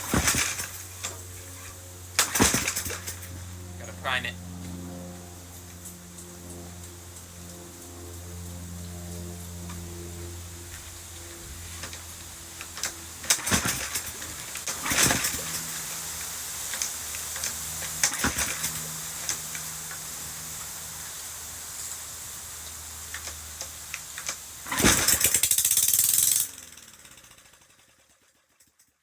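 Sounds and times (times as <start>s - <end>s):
exhaust pops: 0.0s - 4.8s, 9.0s - 27.9s
lawn mower engine running: 0.0s - 28.3s.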